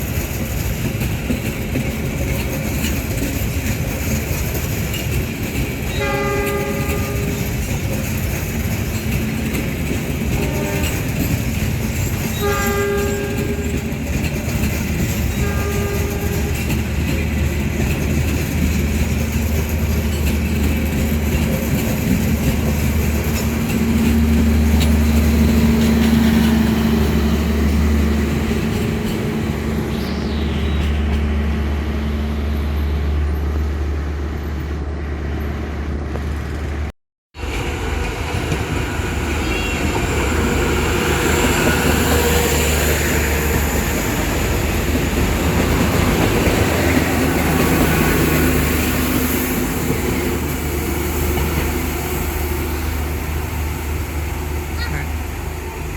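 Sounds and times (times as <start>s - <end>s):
diesel train engine drone: 0.0s - 55.9s
rail and wheel noise: 0.0s - 55.9s
train running noise: 0.0s - 55.9s.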